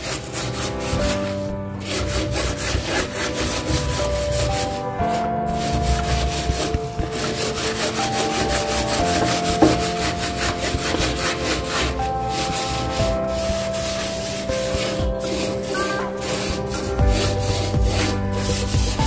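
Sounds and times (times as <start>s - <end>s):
soft background music: 0.0s - 19.0s
steel scrubber scouring stove: 0.0s - 19.0s.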